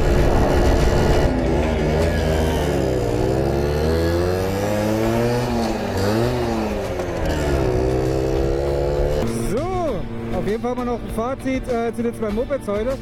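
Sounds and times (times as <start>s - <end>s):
two-stroke moped engines revving: 0.0s - 13.0s.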